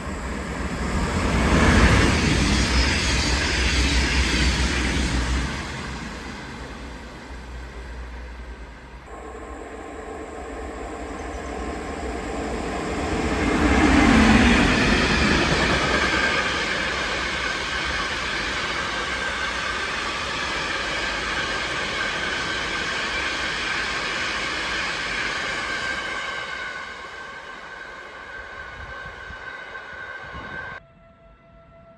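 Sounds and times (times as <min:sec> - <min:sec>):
train passing on tracks: 0:00.0 - 0:31.9.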